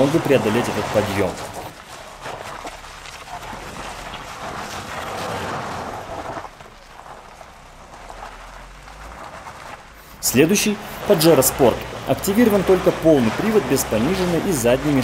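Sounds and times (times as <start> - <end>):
distant car engine on gravel: 0.0 - 15.0.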